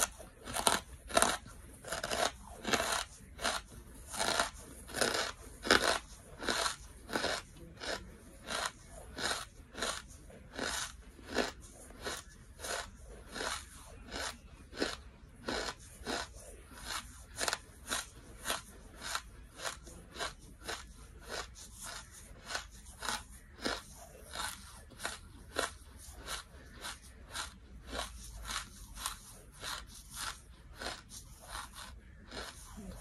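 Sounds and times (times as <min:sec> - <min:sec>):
crunchy chewing: 0:00.0 - 0:33.0.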